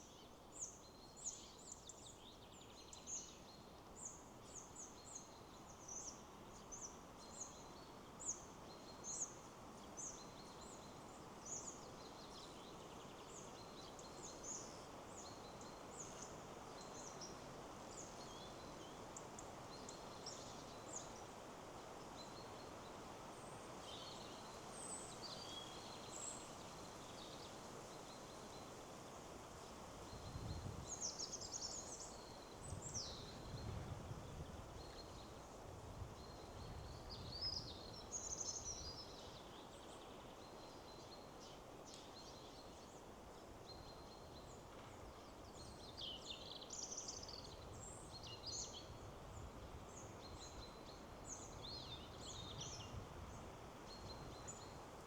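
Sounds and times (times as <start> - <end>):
wind rustling trees: 0.0 - 55.0.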